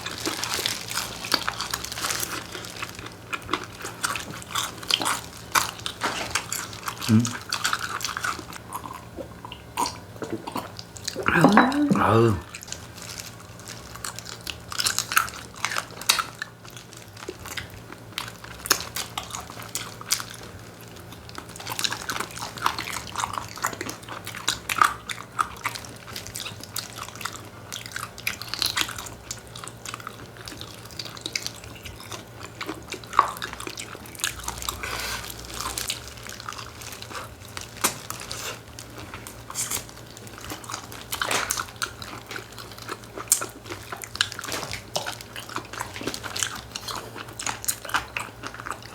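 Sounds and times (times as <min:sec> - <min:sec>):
crunching and wet chewing: 0:00.0 - 0:48.9.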